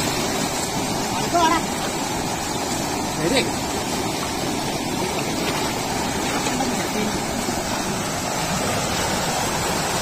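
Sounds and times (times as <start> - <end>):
river rushing over boulders: 0.0 - 10.0.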